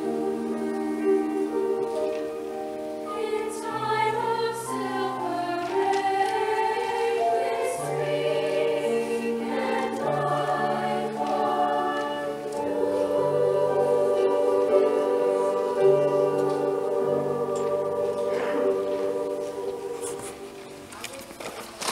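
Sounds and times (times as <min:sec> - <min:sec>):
women's choir singing: 0:00.0 - 0:20.8.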